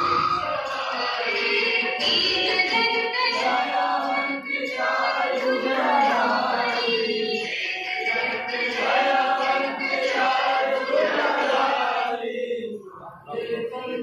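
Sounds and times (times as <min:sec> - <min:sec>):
group singing a devotional hymn: 0:00.0 - 0:14.0.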